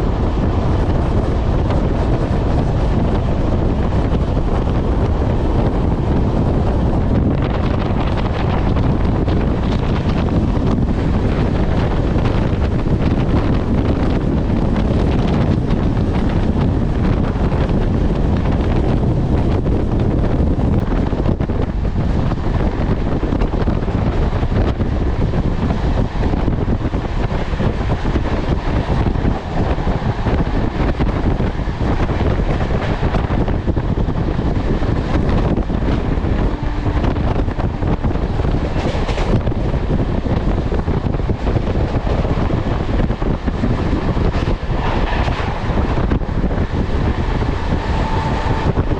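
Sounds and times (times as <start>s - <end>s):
train running rumble: 0.0s - 48.9s
wind buffeting microphone: 0.0s - 48.9s.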